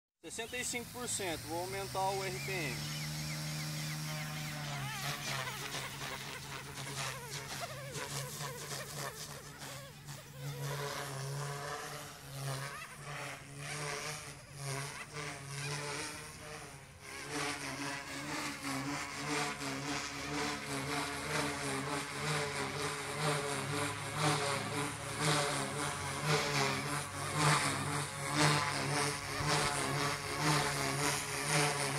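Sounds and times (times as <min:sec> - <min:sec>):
rc helicopter motor whine: 0:00.2 - 0:31.9.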